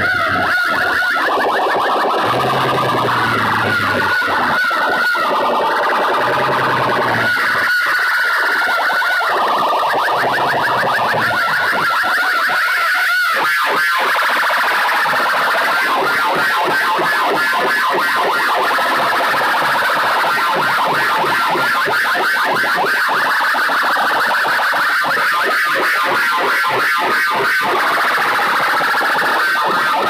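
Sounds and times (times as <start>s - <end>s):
overdriven siren-like electronic warble: 0.0s - 30.0s.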